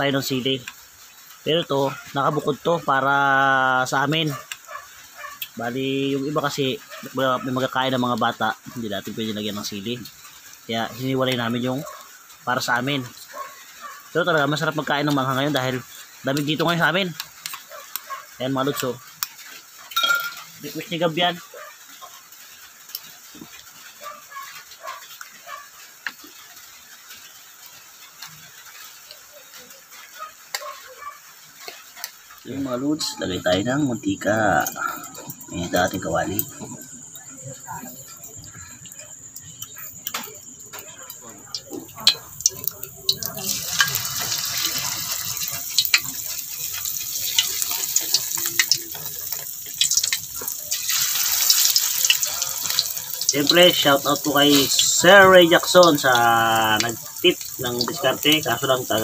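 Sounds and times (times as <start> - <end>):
oil sizzling in a wok: 0.0 - 59.0.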